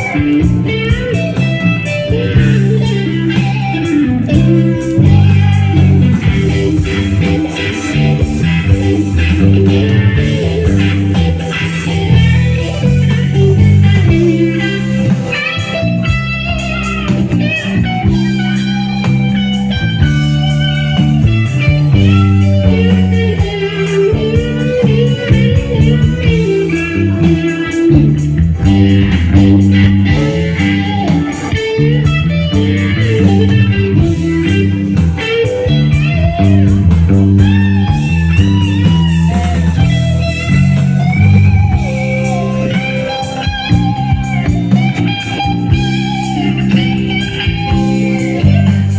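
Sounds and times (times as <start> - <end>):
bass guitar: 0.0 - 48.9
drums with cymbals: 0.0 - 48.9
electric guitar lead: 0.0 - 48.9.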